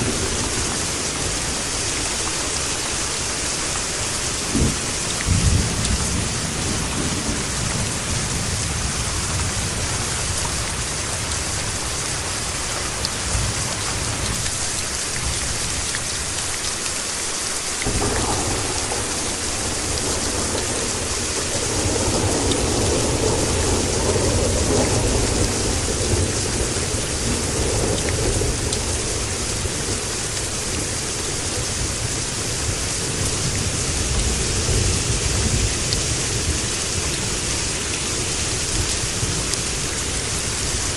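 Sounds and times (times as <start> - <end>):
low rolling thunder: 0.0 - 2.8, 4.4 - 11.8, 17.8 - 40.9
heavy rain hissing: 0.0 - 40.9.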